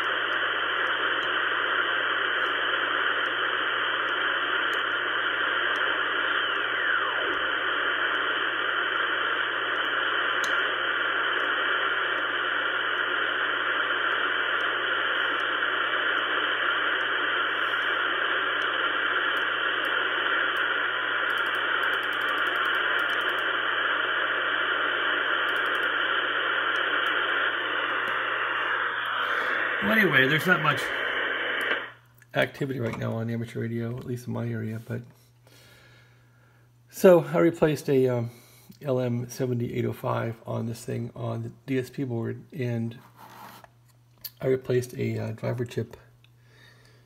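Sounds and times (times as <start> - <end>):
radio static hiss: 0.0 - 47.0.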